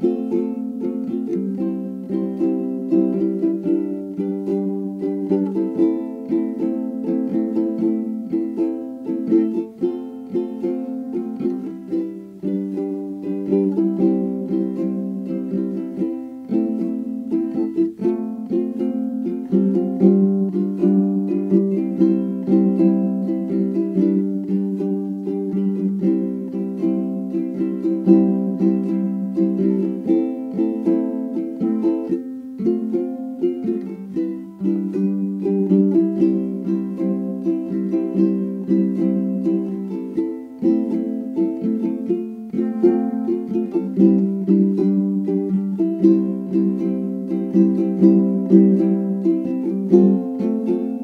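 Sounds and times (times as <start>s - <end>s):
plucked strings tune with steady beat: 0.0s - 51.0s.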